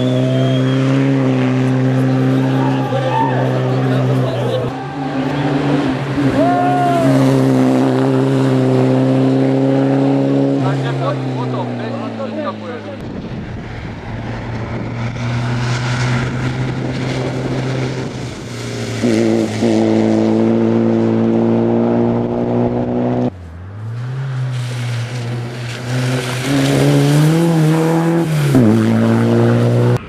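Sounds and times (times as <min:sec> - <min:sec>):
rally car engine passing: 0:00.0 - 0:30.0.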